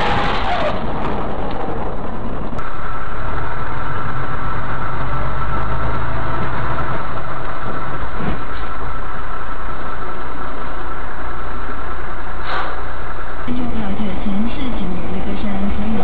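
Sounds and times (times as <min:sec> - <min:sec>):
low engine hum: 0:00.0 - 0:16.0
road and wind noise: 0:00.0 - 0:16.0.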